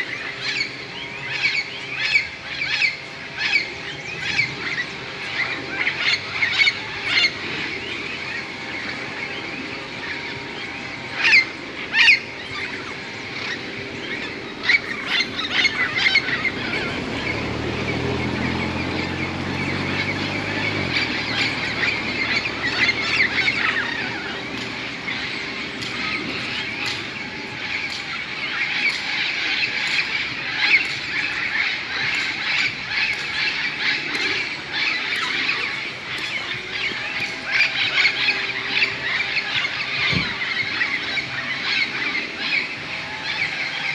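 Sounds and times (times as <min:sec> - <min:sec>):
flock of parrots squawking: 0:00.0 - 0:43.9.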